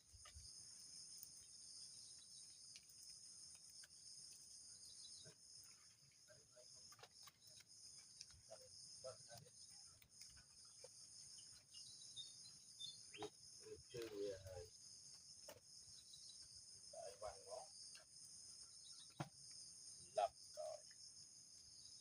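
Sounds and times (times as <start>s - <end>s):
insect chorus trilling: 0.0s - 22.0s.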